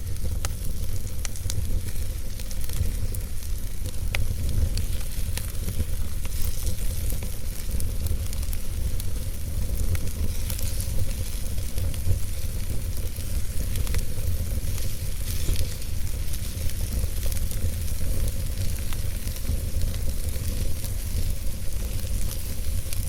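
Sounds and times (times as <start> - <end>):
fire hissing: 0.0 - 23.0
wood fire crackling: 0.0 - 23.0.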